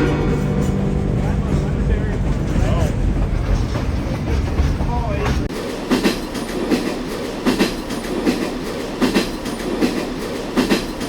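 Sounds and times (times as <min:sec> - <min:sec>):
train wheels clacking over rail joints: 0:00.2 - 0:11.0.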